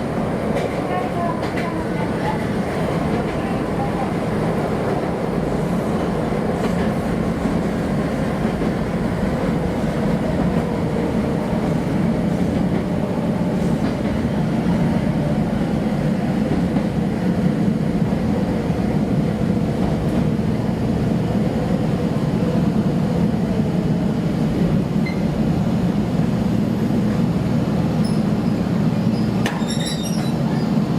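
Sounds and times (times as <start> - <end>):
train running low rumble: 0.0 - 30.9.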